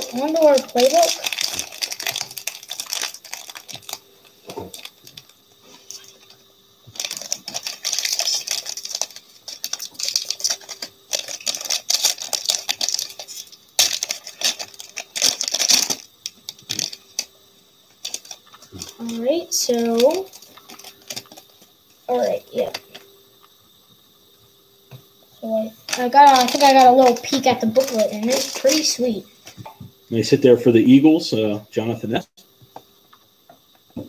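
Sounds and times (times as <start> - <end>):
foil pack crinkling and tearing: 0.0 - 23.6, 25.4 - 29.6.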